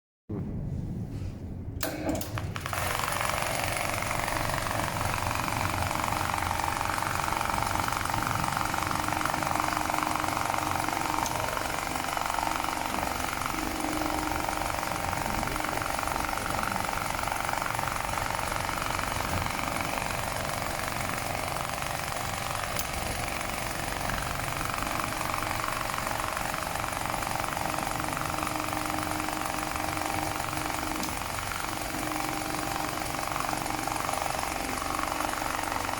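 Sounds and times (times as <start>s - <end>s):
sewing machine stitching: 1.8s - 35.9s.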